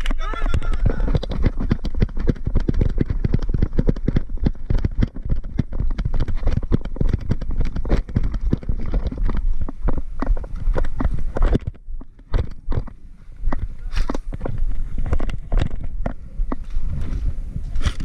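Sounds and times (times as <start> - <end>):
footsteps running on dry dirt: 0.0 - 18.0.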